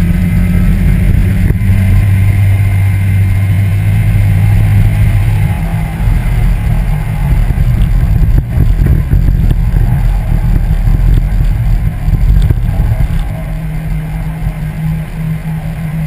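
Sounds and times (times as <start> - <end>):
car wind and road rumble: 0.0 - 16.0.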